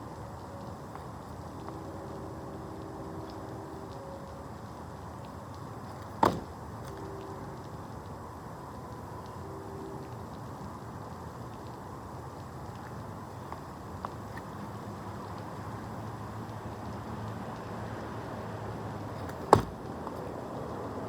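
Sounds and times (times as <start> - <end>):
outdoor background rumble: 0.0 - 21.0.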